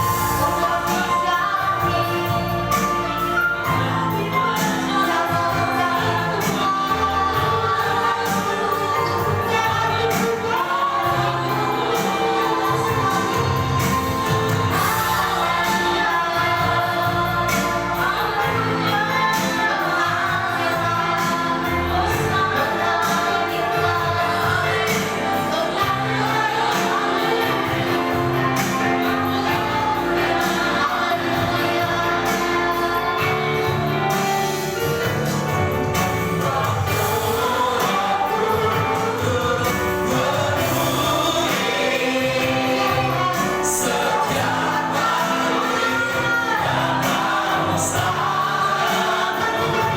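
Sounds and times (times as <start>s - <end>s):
band playing: 0.0s - 49.9s
drums keeping a beat: 0.0s - 49.9s
group of voices singing: 0.0s - 49.9s.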